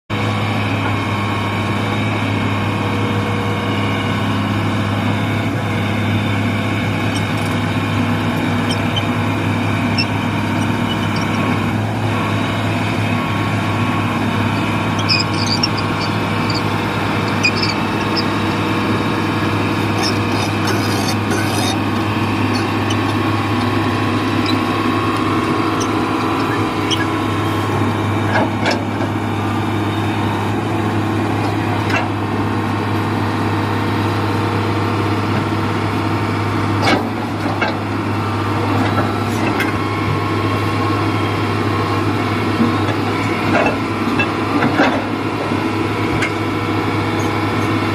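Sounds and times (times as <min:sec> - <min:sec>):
diesel engine running: 0:00.1 - 0:47.9.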